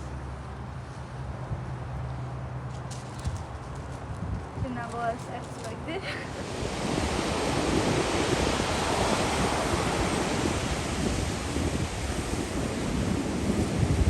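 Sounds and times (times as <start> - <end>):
wind buffeting microphone: 0.2 - 14.0.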